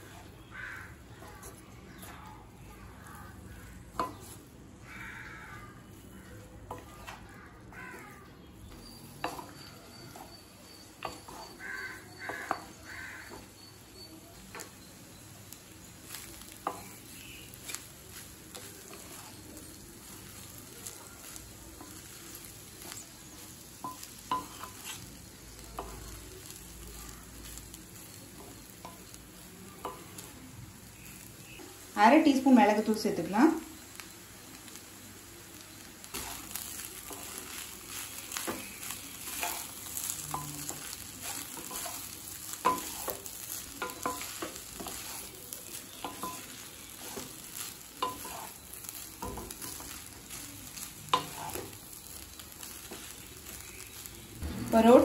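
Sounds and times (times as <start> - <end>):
faint sizzle: 0.0 - 55.0.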